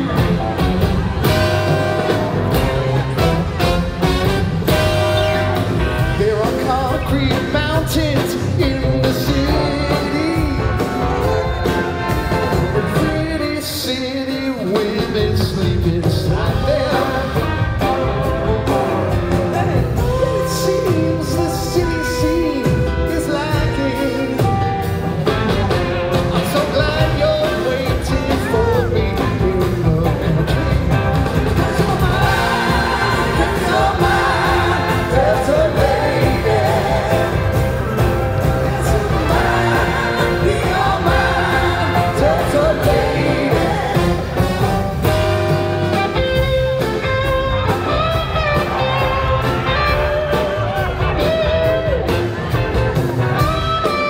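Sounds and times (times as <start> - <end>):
live rock band with singing: 0.0 - 54.0.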